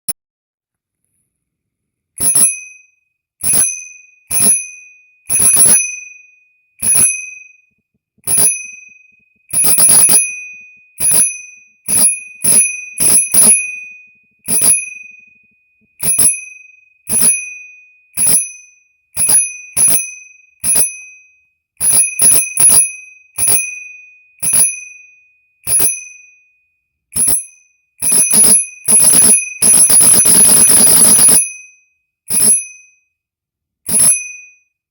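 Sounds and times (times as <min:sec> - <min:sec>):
bicycle bell ringing: 0:02.2 - 0:07.7, 0:08.3 - 0:15.4, 0:16.0 - 0:26.5, 0:27.2 - 0:33.1, 0:33.9 - 0:34.7.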